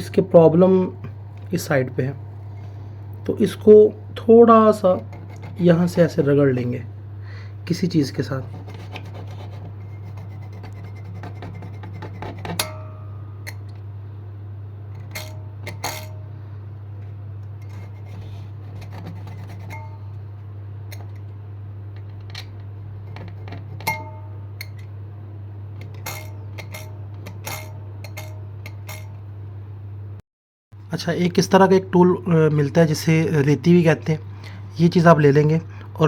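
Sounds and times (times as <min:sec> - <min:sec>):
low electrical hum: 0:00.0 - 0:30.2, 0:30.8 - 0:36.0.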